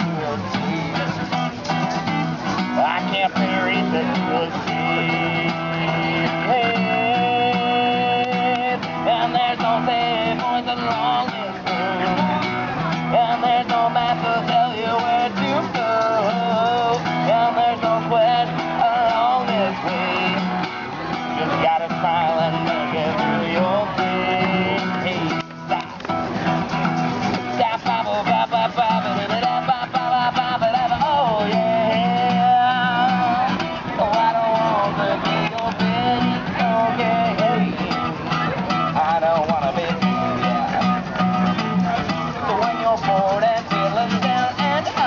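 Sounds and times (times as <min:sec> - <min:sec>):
person singing: 0:00.0 - 0:26.1, 0:27.3 - 0:45.0
guitar playing: 0:00.0 - 0:45.0.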